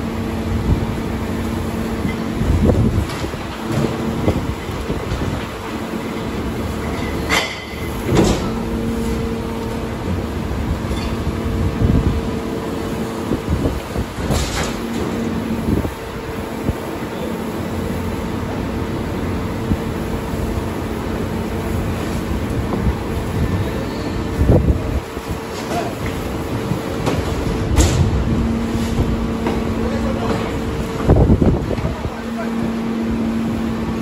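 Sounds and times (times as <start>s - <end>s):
engine and hydraulic hum: 0.0s - 34.0s.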